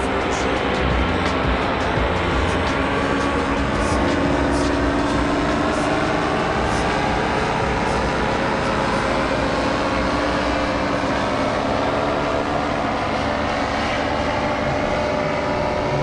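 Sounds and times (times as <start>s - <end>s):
paramotor engine and propeller: 0.0s - 16.0s.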